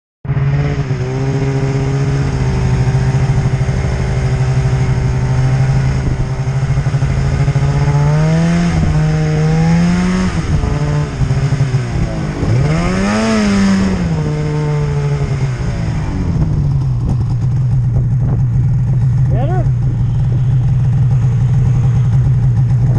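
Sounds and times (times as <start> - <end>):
snowmobile two-stroke engine revving: 0.3 - 22.9.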